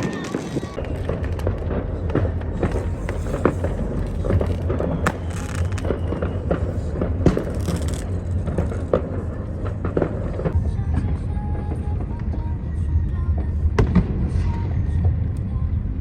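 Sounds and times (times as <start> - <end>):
fireworks popping and crackling: 0.0 - 15.4
low rumble: 0.0 - 16.0.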